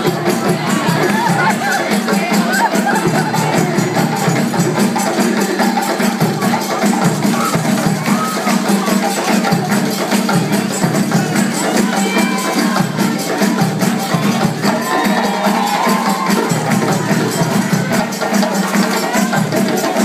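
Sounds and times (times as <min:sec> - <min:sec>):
djembe hand drums playing: 0:00.0 - 0:20.0.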